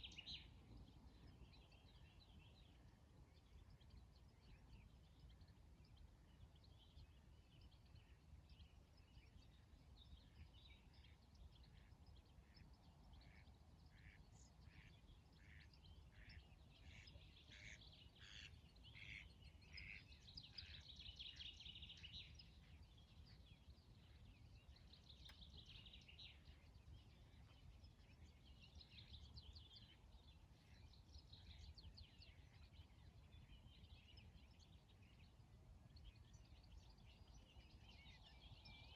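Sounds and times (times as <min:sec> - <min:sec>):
faint birdsong: 0:00.0 - 0:38.9.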